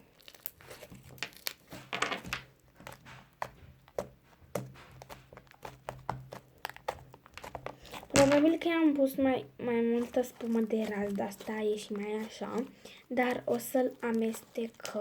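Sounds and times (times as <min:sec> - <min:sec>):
slime squishing and crackling: 0:00.0 - 0:15.0.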